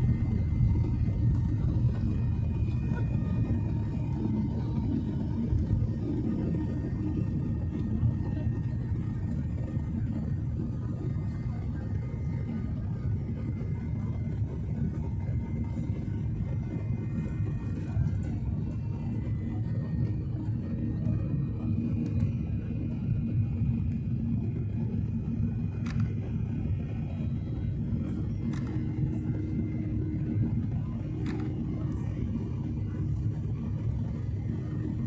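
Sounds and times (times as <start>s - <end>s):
aircraft engines rumbling: 0.0s - 35.0s
faint whining tones: 0.0s - 35.0s.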